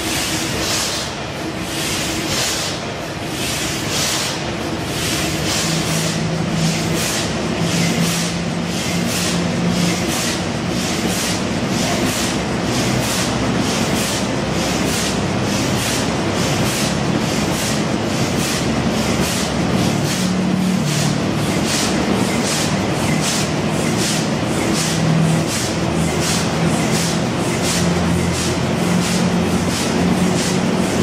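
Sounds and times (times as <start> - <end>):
diesel engine beating hum: 4.0 - 31.0.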